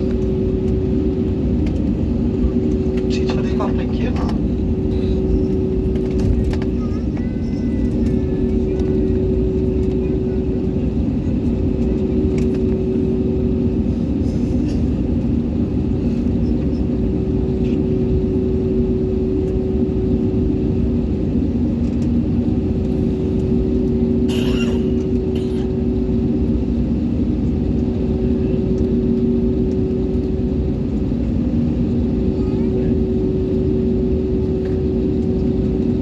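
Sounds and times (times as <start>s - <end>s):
airliner engines rumbling in cabin: 0.0s - 36.0s.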